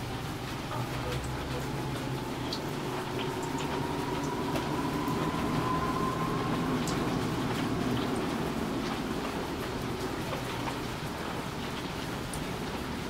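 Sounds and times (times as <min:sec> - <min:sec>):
faint rising whine: 0:00.0 - 0:11.6
low rumble: 0:00.0 - 0:11.7
dripping water: 0:00.0 - 0:13.0
steady rain: 0:00.0 - 0:13.0.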